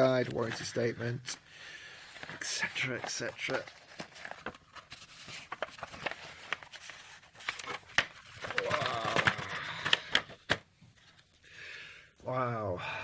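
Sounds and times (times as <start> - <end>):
paper rustling and crinkling: 0.0 - 1.2, 2.0 - 11.4.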